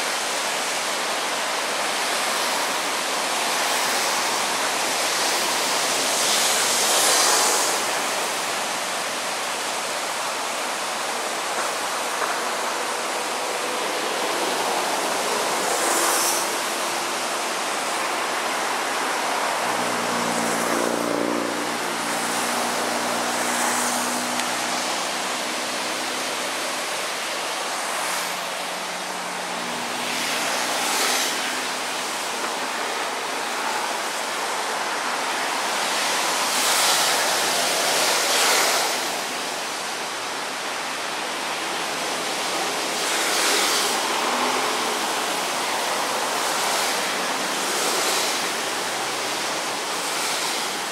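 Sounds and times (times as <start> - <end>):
water rushing over weir: 0.0 - 50.9.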